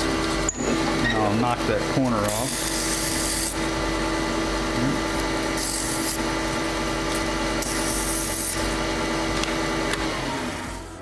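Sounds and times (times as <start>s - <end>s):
wood lathe motor hum: 0.0s - 11.0s.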